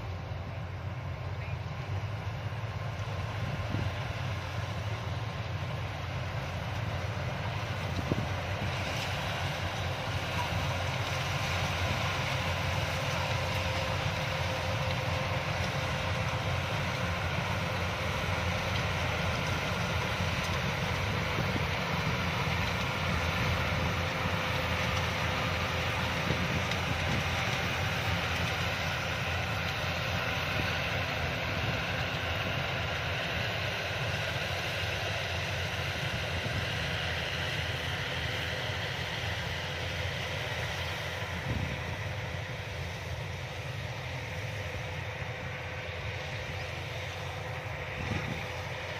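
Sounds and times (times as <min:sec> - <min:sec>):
combine harvester drone: 0:00.0 - 0:48.9.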